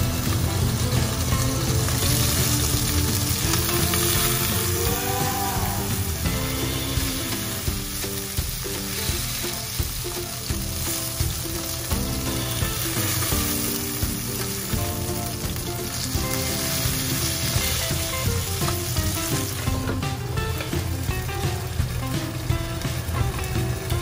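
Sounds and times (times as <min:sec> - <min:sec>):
chicken sizzling in a pan: 0:00.0 - 0:24.0
quiet background music: 0:00.0 - 0:24.0.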